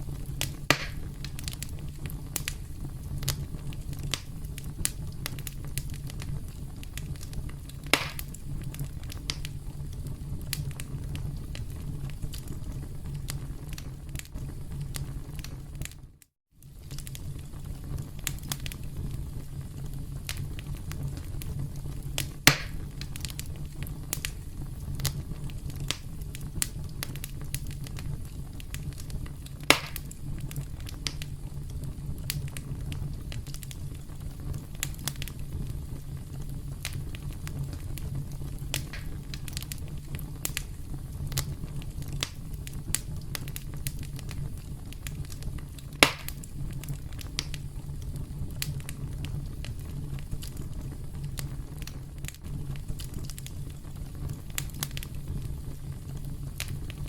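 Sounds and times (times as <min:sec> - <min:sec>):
campfire crackling: 0:00.0 - 0:57.0
sharp pops from fire: 0:00.0 - 0:57.0.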